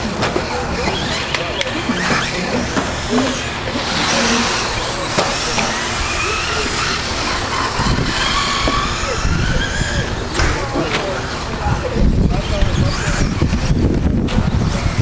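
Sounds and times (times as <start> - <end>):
crowd noise: 0.0 - 15.0
radio-controlled truck motors whining: 0.0 - 15.0.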